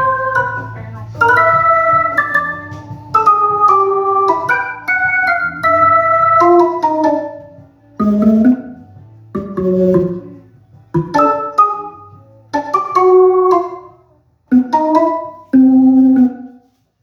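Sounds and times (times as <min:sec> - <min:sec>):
electric piano and organ chords: 0:00.0 - 0:16.8.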